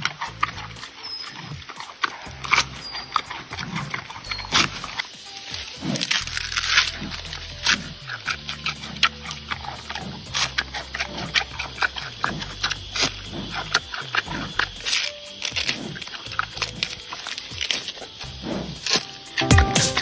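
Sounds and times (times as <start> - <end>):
panda crunching bamboo: 0.0 - 20.0
quiet background music: 0.0 - 20.0.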